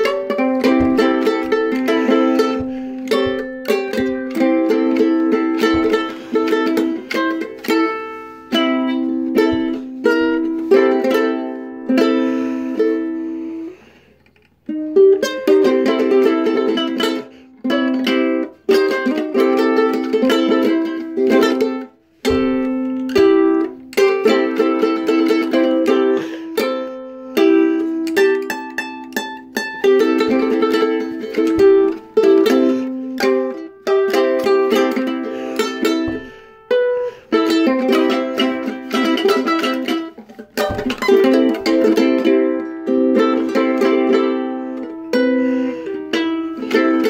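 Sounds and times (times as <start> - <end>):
ukulele strummed and plucked: 0.0 - 47.0.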